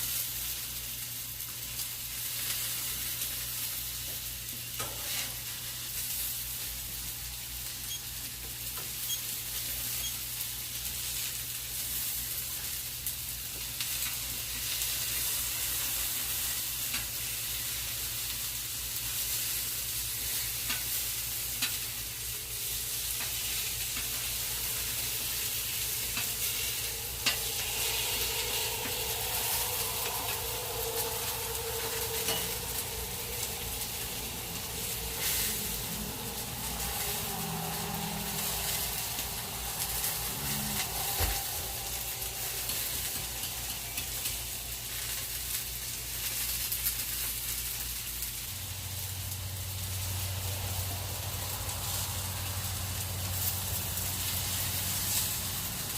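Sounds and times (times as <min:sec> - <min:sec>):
chicken sizzling in a pan: 0:00.0 - 0:55.9.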